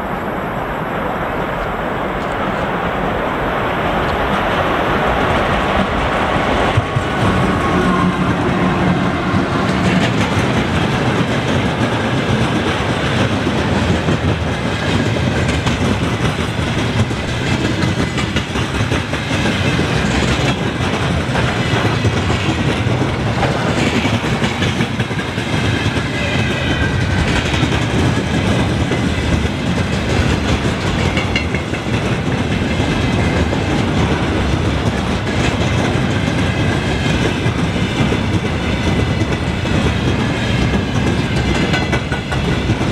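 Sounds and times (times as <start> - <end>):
train wheels clacking on rails: 4.0 - 42.9.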